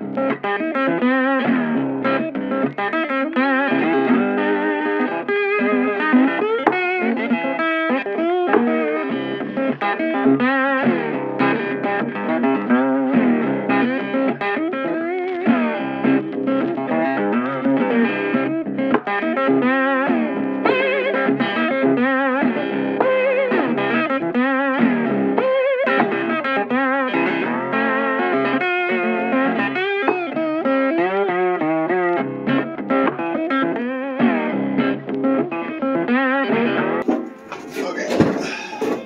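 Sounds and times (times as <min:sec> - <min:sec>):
electric guitar with bent notes: 0:00.0 - 0:39.0.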